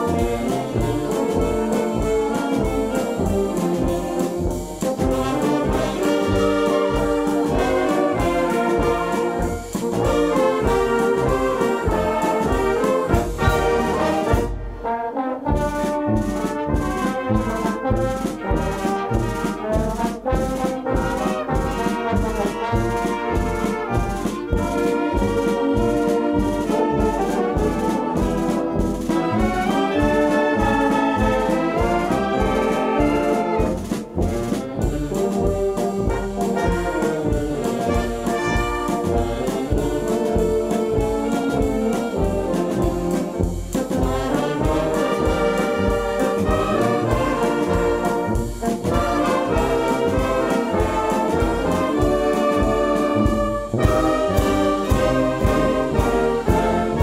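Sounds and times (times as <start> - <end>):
wind band playing show tune: 0.0 - 57.0.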